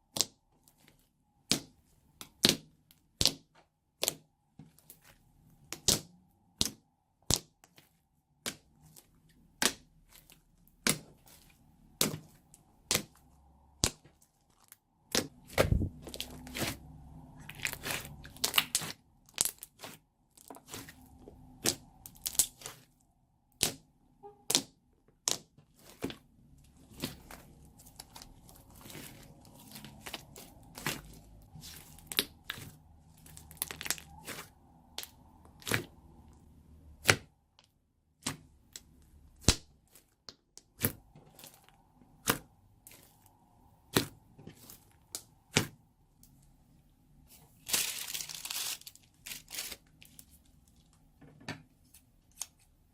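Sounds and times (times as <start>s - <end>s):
slime squishing: 0.0s - 51.2s.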